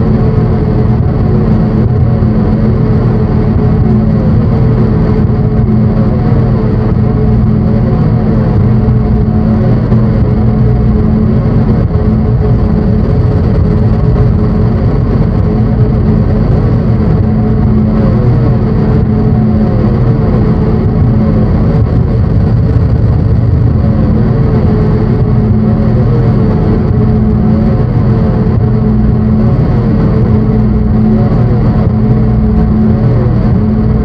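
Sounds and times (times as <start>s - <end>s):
short falling whine: 0.0s - 34.0s
synthesizer drone: 0.0s - 34.0s.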